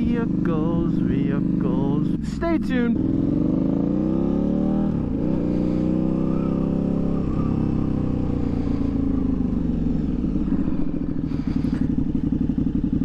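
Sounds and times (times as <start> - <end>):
motorcycle engine shifting gears: 0.0 - 13.0.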